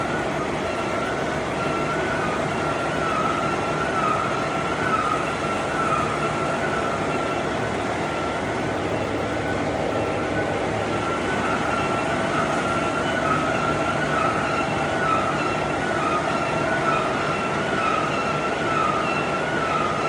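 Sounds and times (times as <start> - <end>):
heavy lathe running: 0.0 - 20.0
high wavering whine: 0.0 - 20.0.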